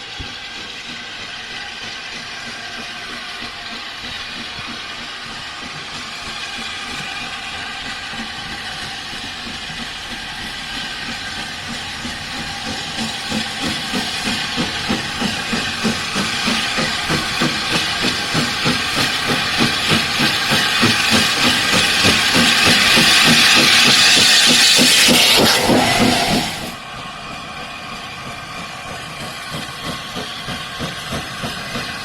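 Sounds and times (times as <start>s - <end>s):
steam hissing: 0.0s - 32.0s
steam locomotive exhaust beats: 0.0s - 32.0s.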